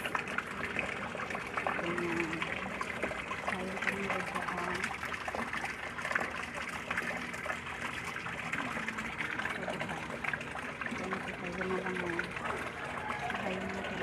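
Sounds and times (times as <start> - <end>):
water splashing from hose: 0.0 - 14.0.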